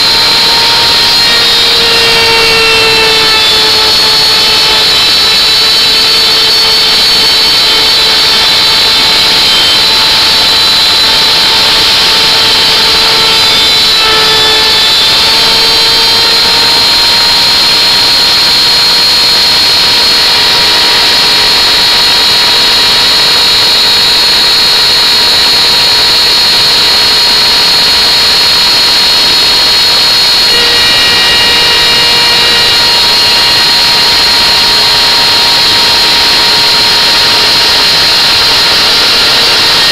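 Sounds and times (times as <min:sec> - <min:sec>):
electric router cutting wood: 0:00.0 - 0:39.9.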